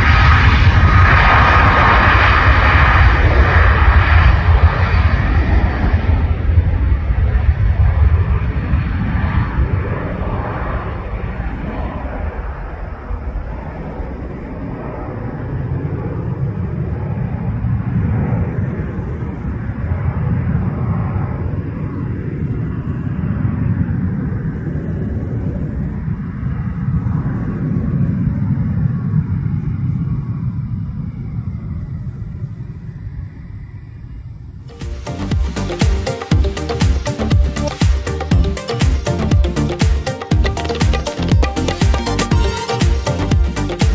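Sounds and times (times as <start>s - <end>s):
jet engines rumbling: 0.0s - 43.9s.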